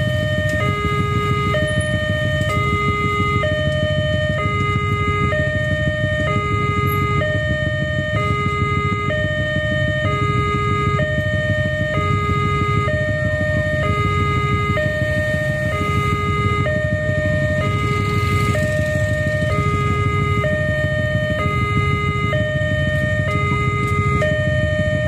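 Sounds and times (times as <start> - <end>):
low rumble of traffic: 0.0 - 25.0
two-tone crossing alarm: 0.0 - 25.0.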